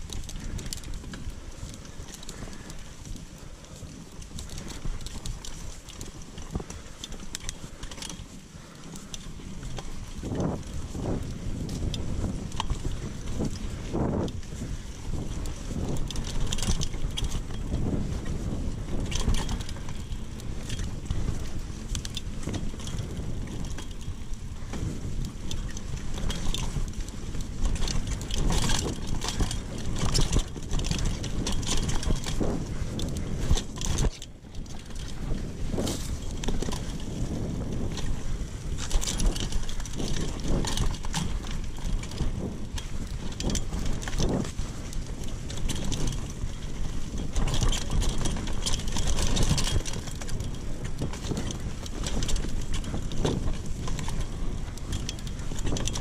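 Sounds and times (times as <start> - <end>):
bike rattling over bumps: 0.0 - 56.0
wind on microphone: 0.0 - 56.0.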